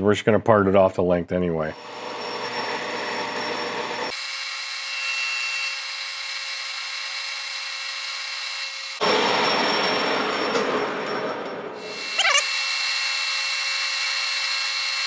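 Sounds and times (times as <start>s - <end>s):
metal lathe cutting whir: 1.8s - 10.7s, 11.8s - 15.0s.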